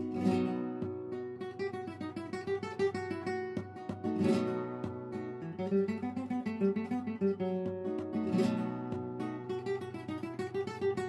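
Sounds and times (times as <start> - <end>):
acoustic guitar piece: 0.0 - 11.0.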